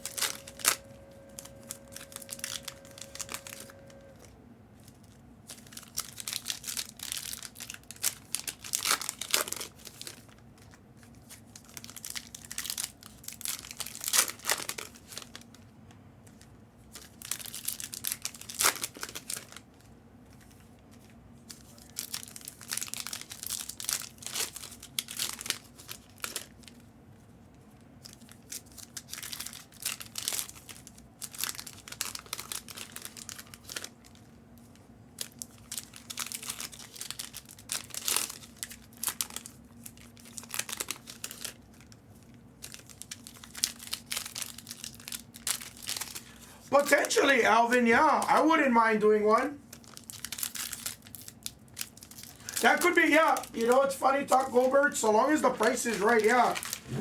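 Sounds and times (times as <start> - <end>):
foil wrappers tearing and crinkling: 0.0 - 4.2, 4.8 - 15.6, 16.3 - 26.9, 27.7 - 47.8, 49.6 - 57.0.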